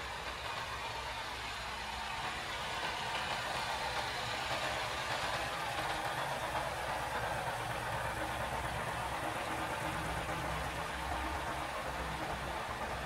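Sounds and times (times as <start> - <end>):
diesel railcar engines idling: 0.0 - 13.0.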